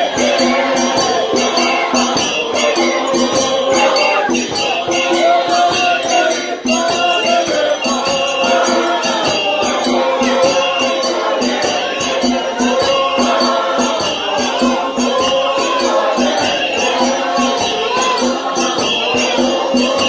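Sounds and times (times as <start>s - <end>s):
congregation singing a hymn: 0.0s - 20.0s
steady percussive beat: 0.0s - 20.0s.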